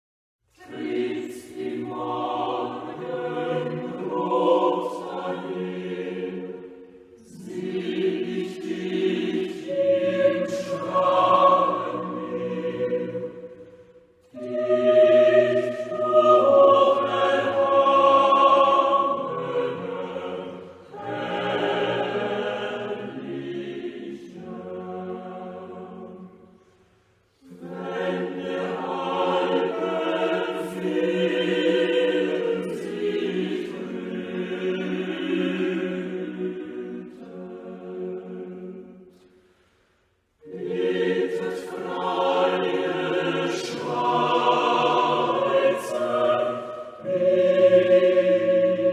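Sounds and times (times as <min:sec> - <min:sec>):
choir singing unaccompanied: 0:00.6 - 0:39.3, 0:40.4 - 0:48.9.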